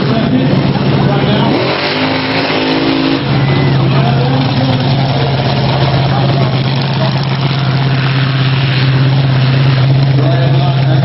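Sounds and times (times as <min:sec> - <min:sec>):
monster truck engine idling: 0:00.0 - 0:11.0.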